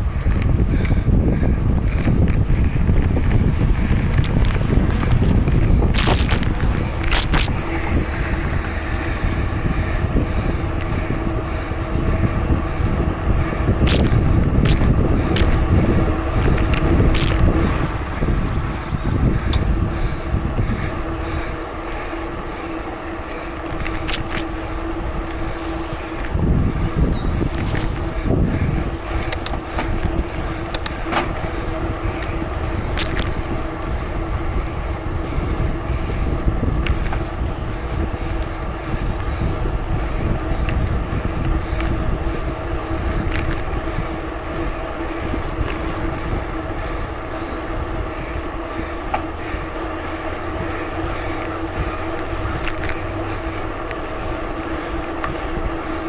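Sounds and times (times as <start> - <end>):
wind on microphone: 0.0 - 21.6, 23.6 - 49.8
bicycle clicks and rattles: 0.0 - 56.0
bicycle rolling noise: 0.0 - 56.0
constant hum: 0.0 - 56.0.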